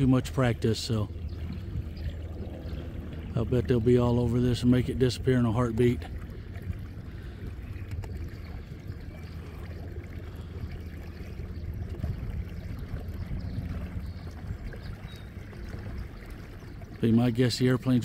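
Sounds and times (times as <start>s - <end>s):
boat rumbling: 0.0s - 18.0s
water washing against hull: 0.0s - 18.0s.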